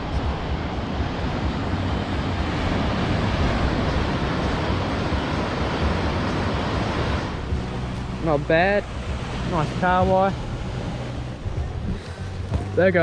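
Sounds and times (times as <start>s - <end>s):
wind on microphone: 0.0s - 12.8s
surf rushing: 0.0s - 13.0s.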